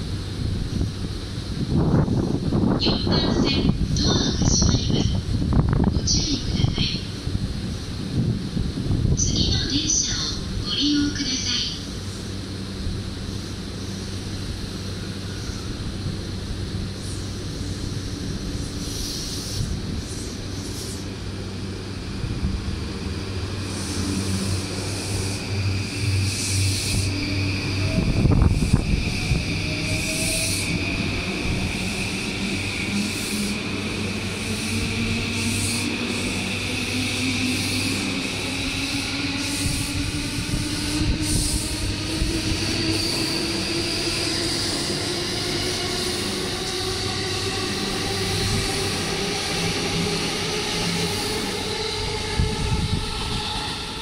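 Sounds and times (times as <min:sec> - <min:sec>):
high-pitched train whine: 0:00.0 - 0:54.0
wheels rumbling on rail: 0:00.0 - 0:54.0.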